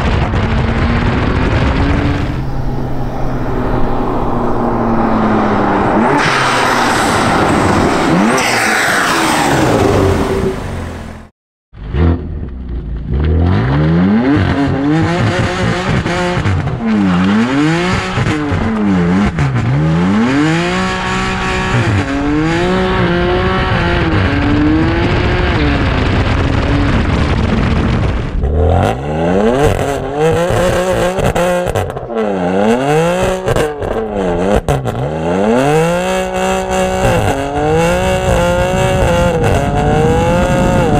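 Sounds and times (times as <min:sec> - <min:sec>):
car engine revving: 0:00.0 - 0:11.3, 0:11.9 - 0:40.9.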